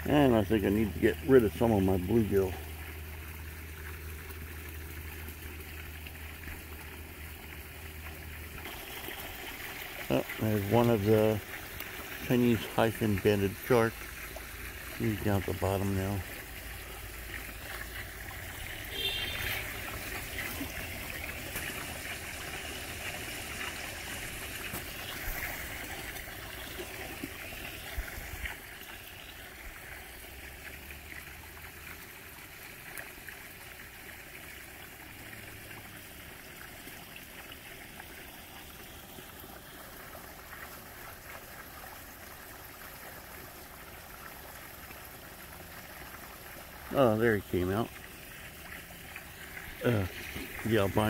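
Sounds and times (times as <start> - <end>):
trickle of running water: 0.0 - 51.0.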